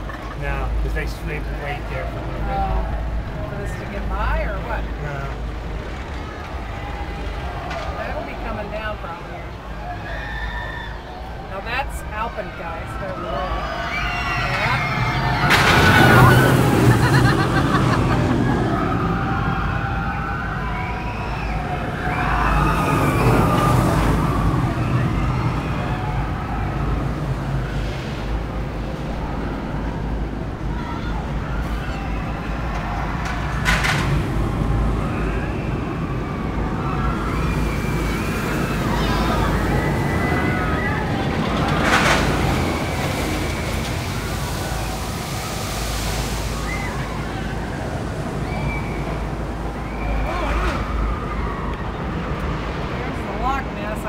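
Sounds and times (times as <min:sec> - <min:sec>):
riders screaming on roller coaster: 0:05.3 - 0:53.8.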